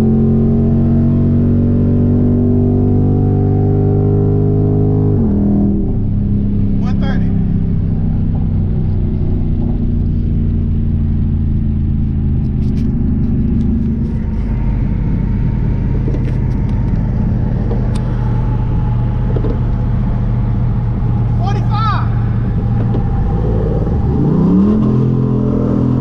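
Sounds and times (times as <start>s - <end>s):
car engine and exhaust drone: 0.0s - 26.0s.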